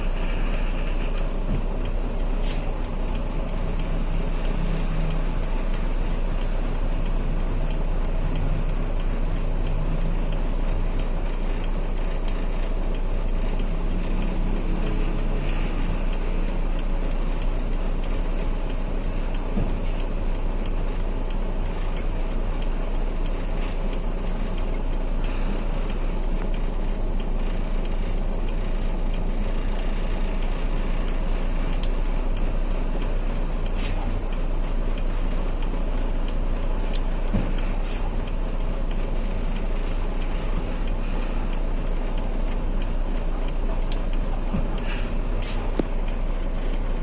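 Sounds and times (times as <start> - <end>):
light ticks: 0.0 - 47.0
road rumble: 0.0 - 47.0
truck engine: 0.0 - 47.0.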